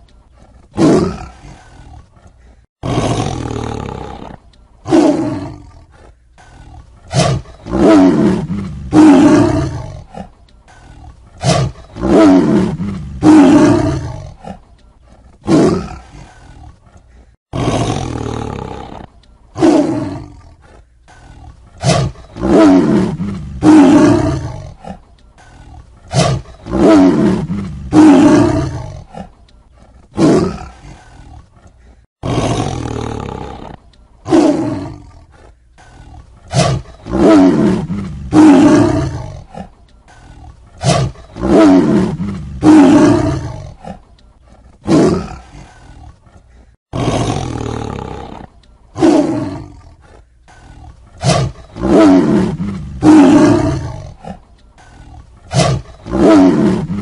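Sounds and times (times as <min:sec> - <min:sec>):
tiger roaring: 0:00.4 - 0:57.0.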